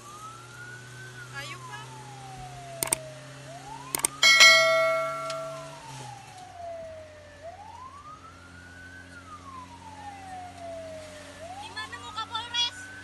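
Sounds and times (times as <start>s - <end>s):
wailing siren: 0.0s - 13.0s.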